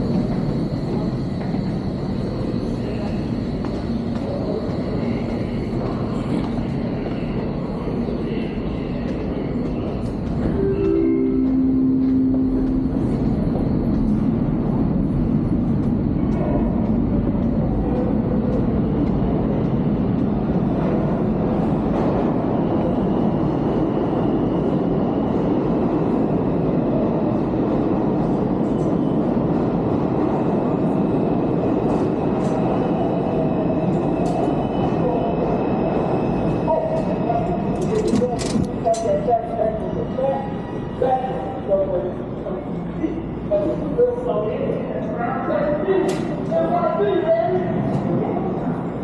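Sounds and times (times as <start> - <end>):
subway trains rumbling: 0.0 - 49.0.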